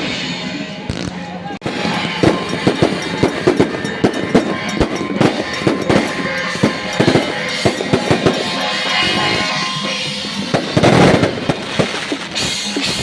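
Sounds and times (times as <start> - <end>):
music: 0.0 - 13.0
firecrackers popping: 0.9 - 9.0, 10.2 - 13.0.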